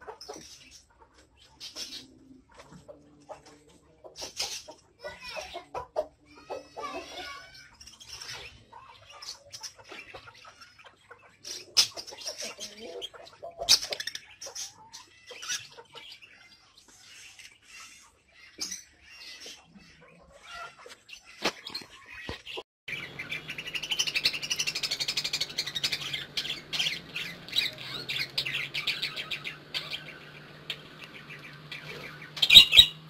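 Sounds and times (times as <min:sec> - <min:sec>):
budgerigars chattering and warbling: 0:00.0 - 0:33.0.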